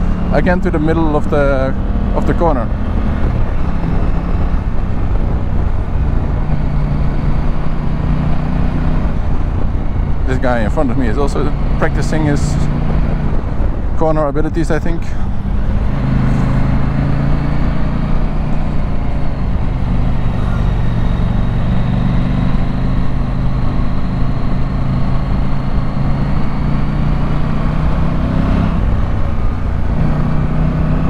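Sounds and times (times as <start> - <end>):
motorcycle engine running: 0.0 - 28.1.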